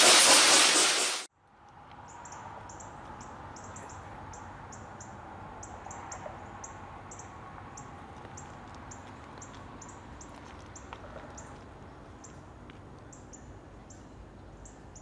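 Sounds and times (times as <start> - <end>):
faint steady background noise: 1.3 - 15.0.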